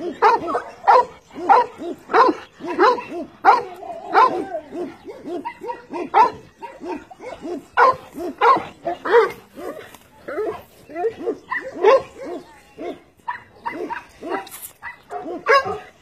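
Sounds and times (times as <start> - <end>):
dog barking: 0.0 - 9.8, 10.4 - 16.0.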